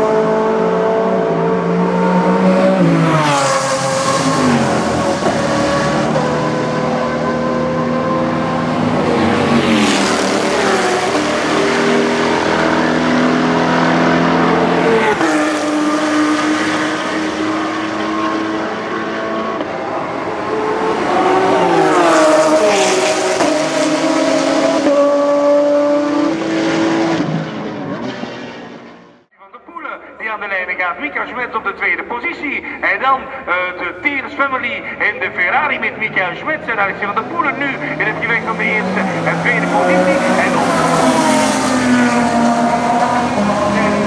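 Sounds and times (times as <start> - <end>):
race car engines revving: 0.0 - 29.3, 31.5 - 44.0.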